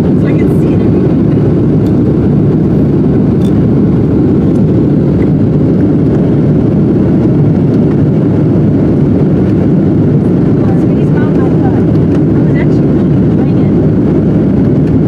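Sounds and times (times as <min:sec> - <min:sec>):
airplane cabin engine roar: 0:00.0 - 0:15.0.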